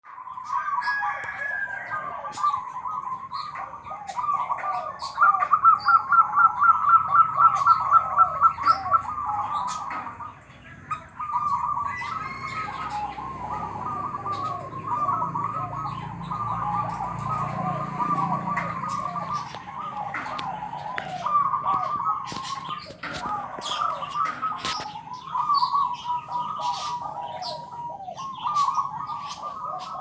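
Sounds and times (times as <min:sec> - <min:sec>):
birds chirping: 0:00.0 - 0:30.0
dove cooing: 0:00.0 - 0:30.0.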